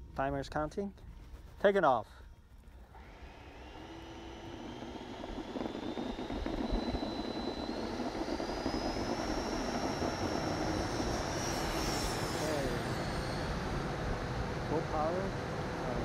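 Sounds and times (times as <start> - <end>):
electric ducted fans whining: 0.0 - 16.0.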